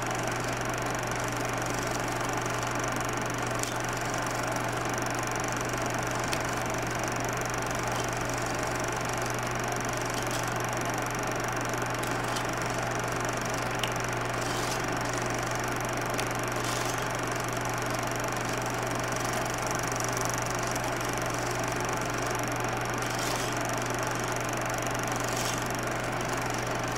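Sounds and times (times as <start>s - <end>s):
film projector hum and hiss: 0.0s - 26.9s
film clicks and crackles: 0.5s - 20.1s, 20.8s - 26.9s.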